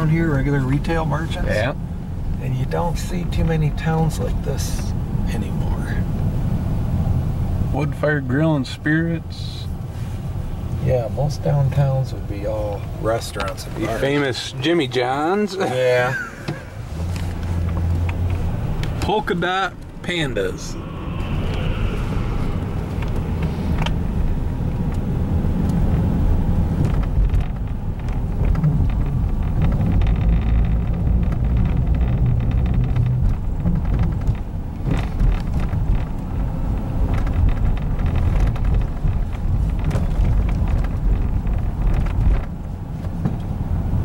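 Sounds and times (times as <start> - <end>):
car engine and tyres on road: 0.0 - 44.0.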